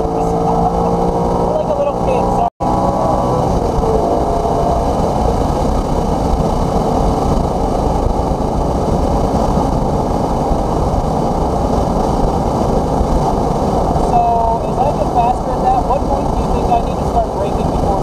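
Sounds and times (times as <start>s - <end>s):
car engine at speed: 0.0s - 18.0s
road and wind noise: 0.0s - 18.0s.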